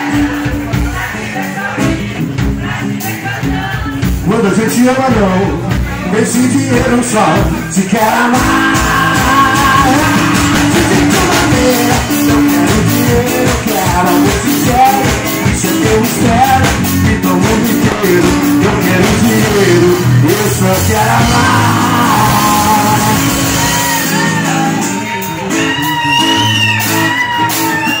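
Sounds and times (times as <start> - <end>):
acoustic guitar: 0.0 - 28.0
drum kit: 0.0 - 28.0
man singing: 0.0 - 28.0.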